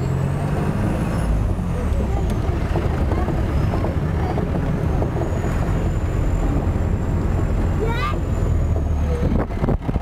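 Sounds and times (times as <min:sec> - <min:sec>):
vehicle engine and road rumble: 0:00.0 - 0:10.0.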